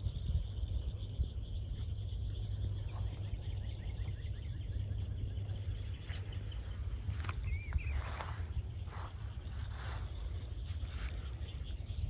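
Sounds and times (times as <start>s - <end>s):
soft bird chirps: 0.0s - 12.0s
wind on microphone: 0.0s - 12.0s.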